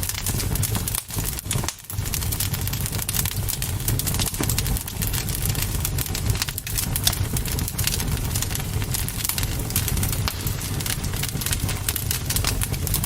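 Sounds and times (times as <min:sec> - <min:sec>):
campfire pops and snaps: 0:00.0 - 0:13.0
fire low rumble: 0:00.0 - 0:13.0.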